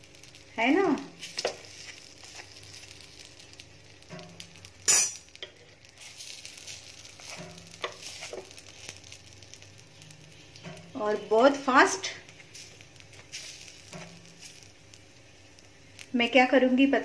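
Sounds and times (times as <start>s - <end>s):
dough frying sizzle: 0.0s - 17.0s.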